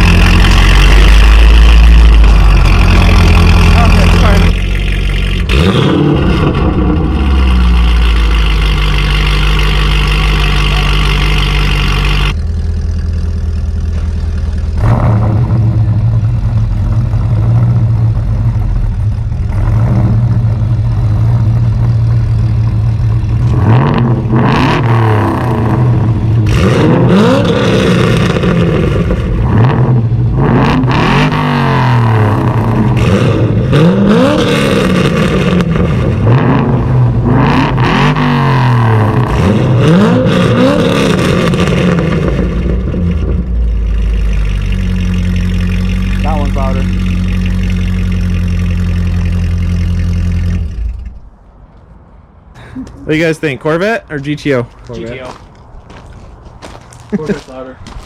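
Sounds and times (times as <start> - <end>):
car engine idling and revving: 0.0 - 53.1.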